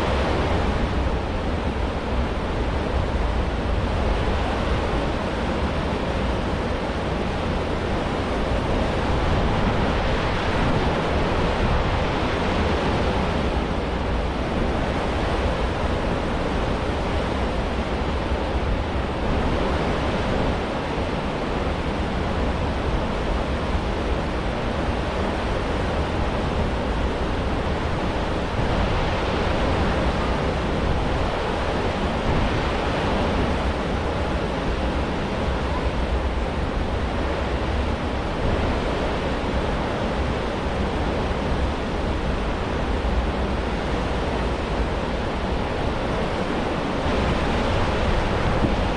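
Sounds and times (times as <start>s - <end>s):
ship wake rushing: 0.0s - 48.9s.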